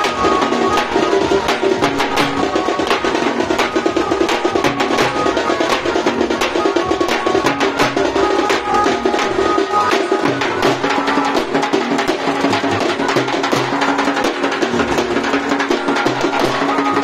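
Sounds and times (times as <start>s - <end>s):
melody of held notes: 0.0s - 17.0s
rapid drumming: 0.0s - 17.0s.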